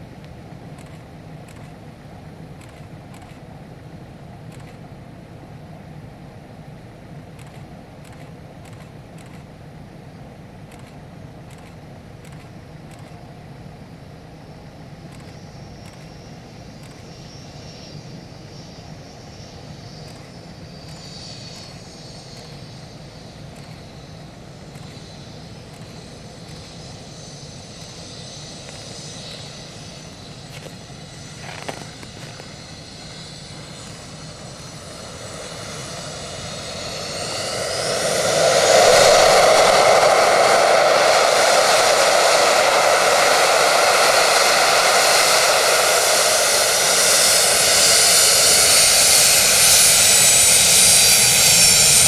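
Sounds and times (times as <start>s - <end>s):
faint whining jet engines: 0.0s - 52.0s.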